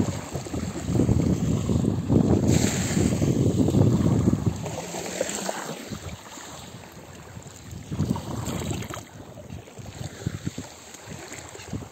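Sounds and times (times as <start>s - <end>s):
wind buffeting microphone: 0.0s - 5.0s, 5.8s - 11.9s
small waves at water's edge: 0.0s - 11.9s.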